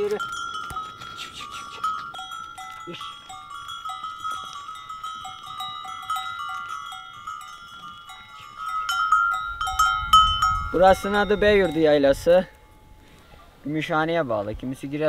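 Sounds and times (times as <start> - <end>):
cattle bells clanking: 0.0 - 13.1.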